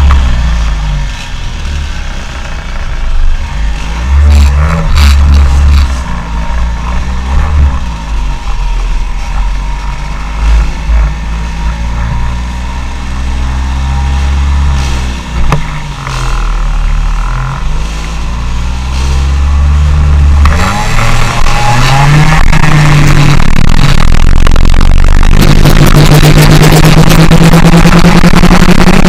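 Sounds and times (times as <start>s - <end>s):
car engine running: 0.0s - 29.0s
heavy low rumble: 0.0s - 29.0s.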